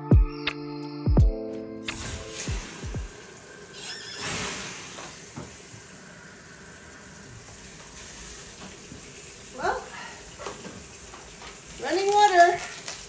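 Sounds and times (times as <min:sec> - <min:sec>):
water running from a tap: 0:01.9 - 0:13.0.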